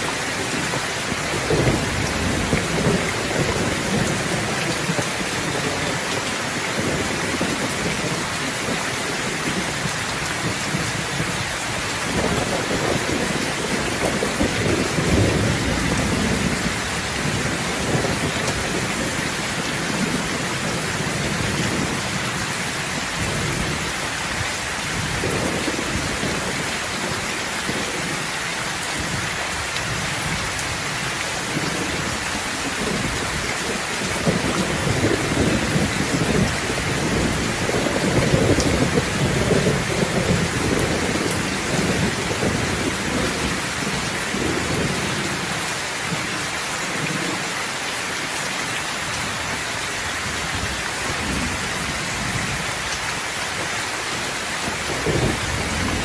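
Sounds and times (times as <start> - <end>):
heavy rain pouring: 0.0 - 56.0
thunder rumbling: 0.1 - 28.3, 29.0 - 47.5, 54.6 - 56.0.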